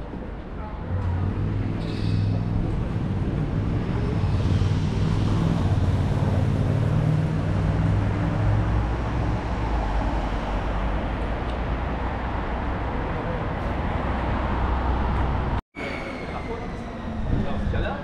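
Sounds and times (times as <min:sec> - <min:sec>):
vehicle engines humming: 0:00.1 - 0:15.6.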